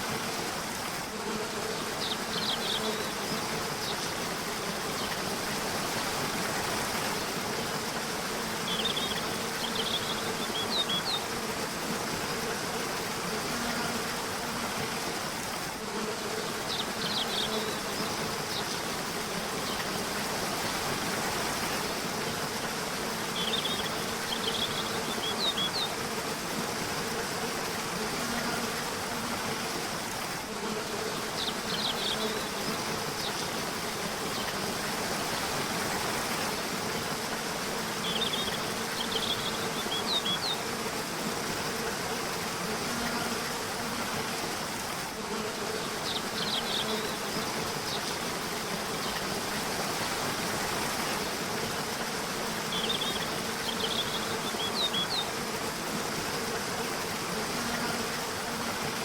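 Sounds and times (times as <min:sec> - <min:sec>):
river running: 0:00.0 - 0:59.0.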